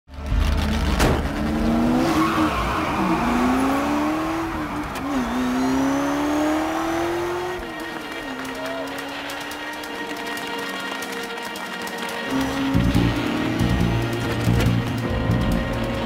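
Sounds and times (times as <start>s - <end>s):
race car engine accelerating: 0.1s - 10.6s, 12.3s - 16.0s.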